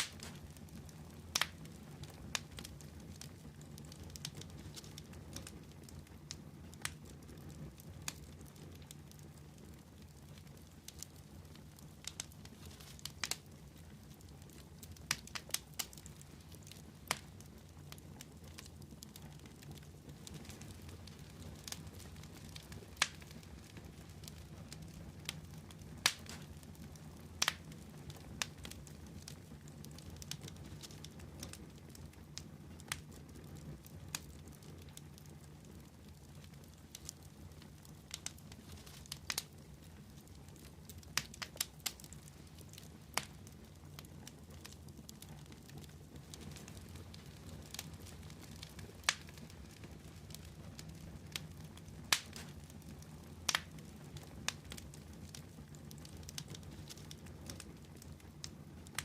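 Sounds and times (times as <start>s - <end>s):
burning wood crackling and popping: 0.0s - 59.0s
wood fire rumbling: 0.0s - 59.0s.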